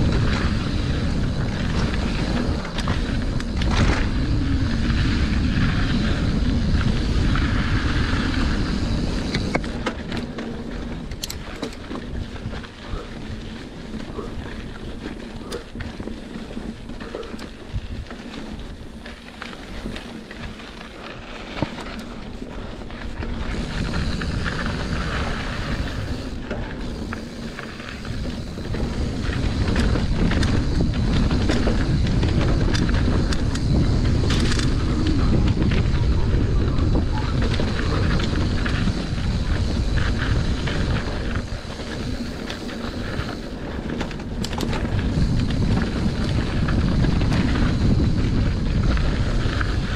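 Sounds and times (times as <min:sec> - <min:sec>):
bike rattling and clicking: 0:00.0 - 0:49.9
tyres rolling on dirt: 0:00.0 - 0:49.9
wind rushing over microphone: 0:00.0 - 0:49.9.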